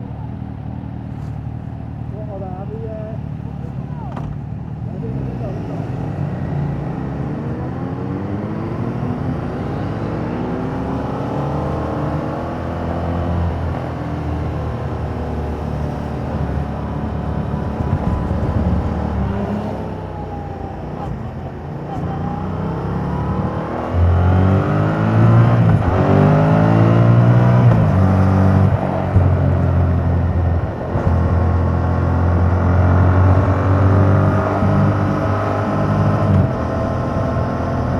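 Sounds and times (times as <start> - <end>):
motorcycle engine revving: 3.4 - 37.9.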